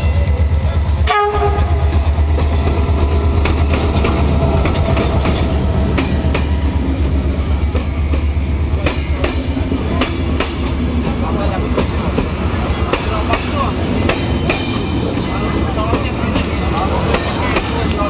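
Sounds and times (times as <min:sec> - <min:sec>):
train rumble: 0:00.0 - 0:18.0
wheels clickety-clack over rail joints: 0:00.0 - 0:18.0.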